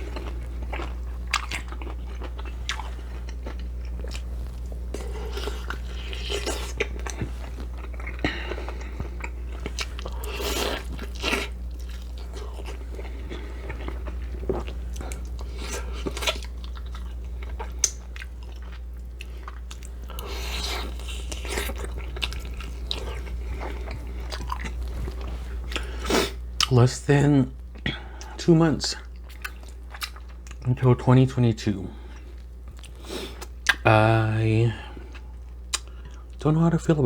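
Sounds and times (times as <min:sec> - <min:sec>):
crunchy food chewing: 0:00.0 - 0:26.8, 0:29.0 - 0:30.7, 0:32.1 - 0:34.3
steady low hum: 0:00.0 - 0:37.0.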